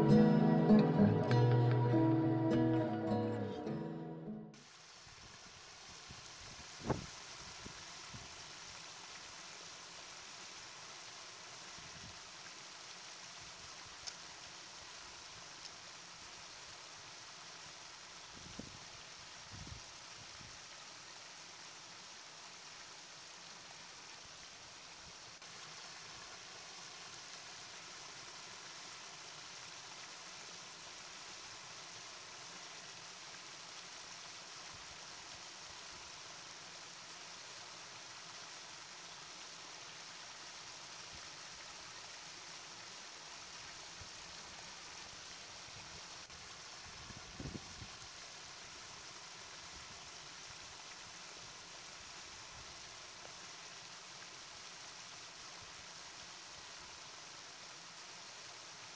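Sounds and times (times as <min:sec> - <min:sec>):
stream babbling over stones: 0:04.6 - 0:58.9.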